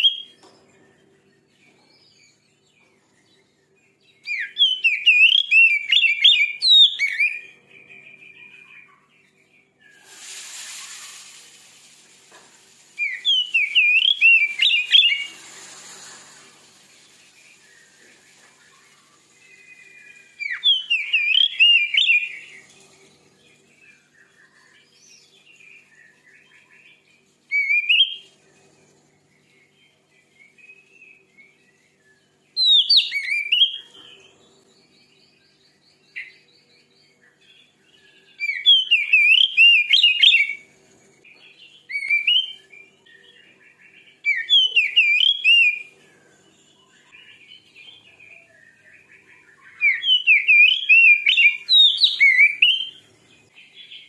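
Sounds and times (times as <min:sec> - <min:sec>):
bird warbling song: 0:00.0 - 0:10.2, 0:12.1 - 0:54.0
soft bird twittering: 0:00.0 - 0:54.0.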